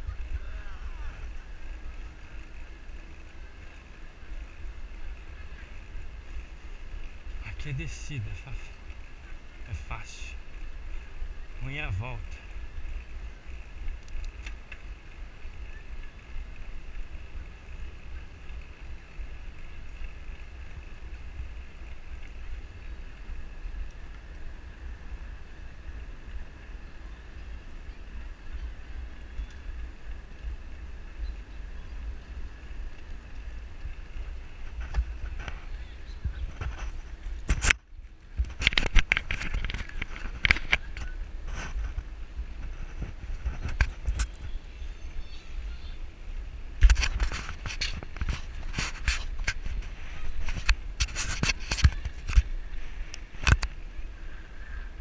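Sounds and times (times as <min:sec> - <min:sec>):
bike rattling over pavement: 0:00.0 - 0:55.0
wind rumbling on microphone: 0:00.0 - 0:55.0.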